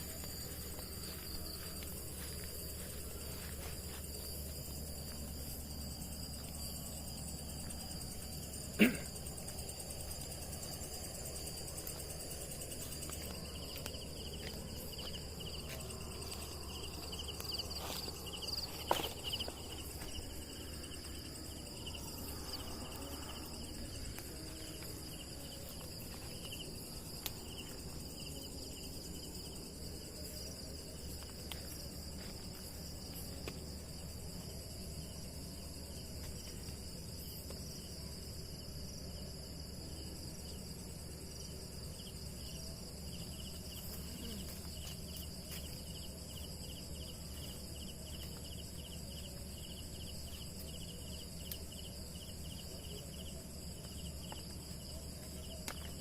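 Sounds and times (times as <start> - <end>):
night insects trilling: 0.0 - 56.0.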